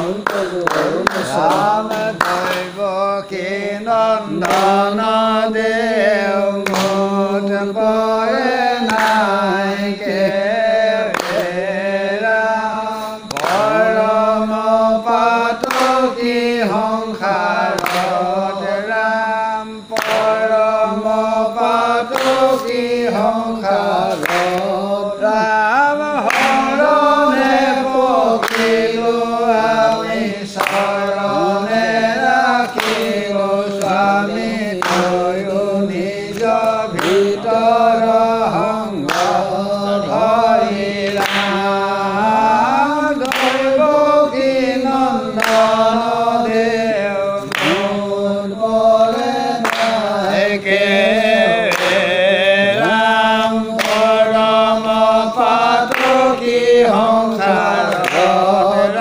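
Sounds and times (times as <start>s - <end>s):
voices chanting together: 0.0s - 59.0s.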